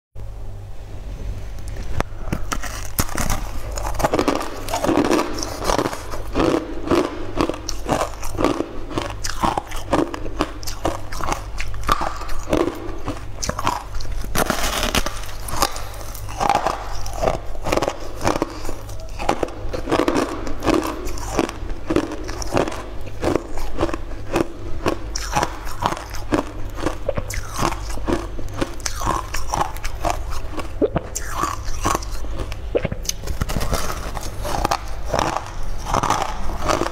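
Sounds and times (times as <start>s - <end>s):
crunchy food being chewed: 1.7s - 36.9s.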